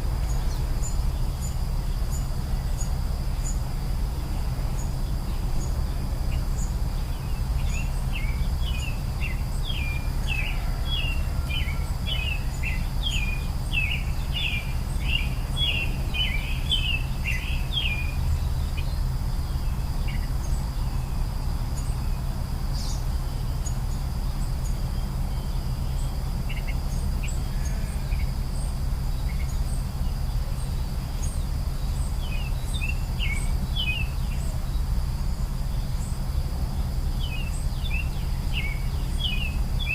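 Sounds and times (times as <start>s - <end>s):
high insect drone: 0.0s - 39.9s
songbird chirping: 0.0s - 39.9s.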